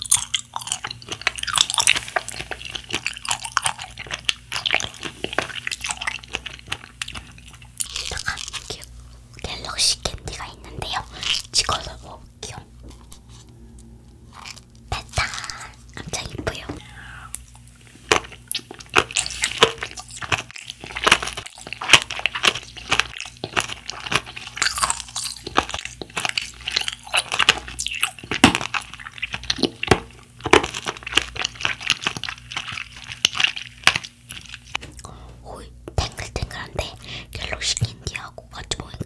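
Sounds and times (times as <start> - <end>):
crunchy wet chewing: 0.0 - 13.6, 14.2 - 35.1.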